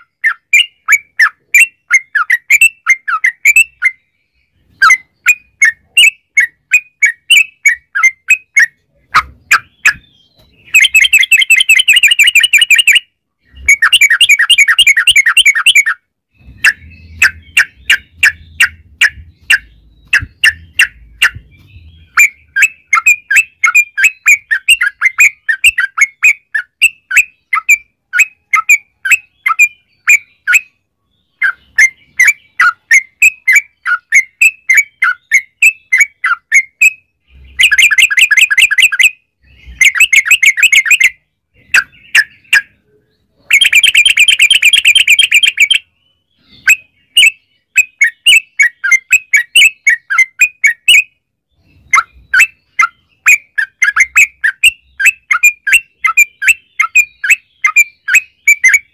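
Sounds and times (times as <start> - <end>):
bulbul chirping: 0.0 - 4.0, 4.6 - 30.8, 31.4 - 58.9.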